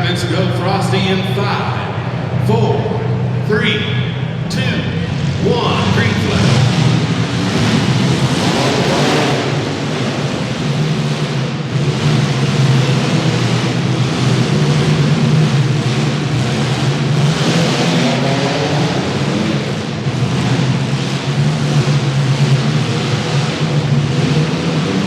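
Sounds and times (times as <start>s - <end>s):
car engines revving roughly: 0.0s - 25.0s
steady noisy wash: 0.0s - 25.0s.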